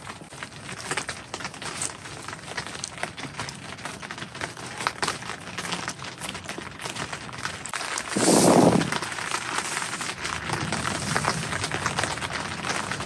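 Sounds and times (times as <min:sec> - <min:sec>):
rain pattering on tent fabric: 0:00.0 - 0:13.0.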